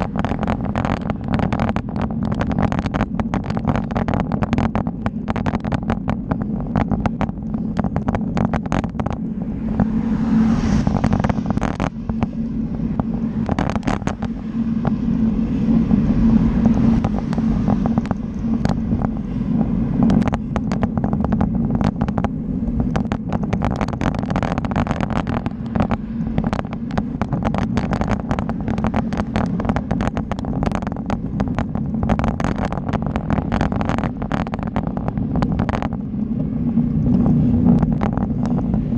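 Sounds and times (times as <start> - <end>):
bicycle road rumble: 0.0 - 38.9
wind on microphone: 0.0 - 38.9.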